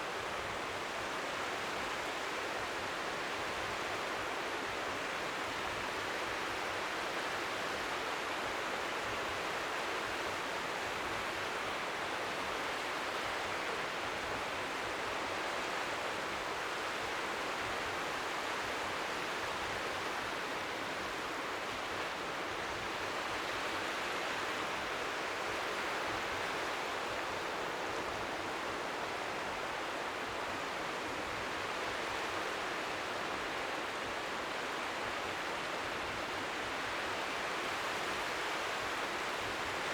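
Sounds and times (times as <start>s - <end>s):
faint lapping waves: 0.0s - 39.9s.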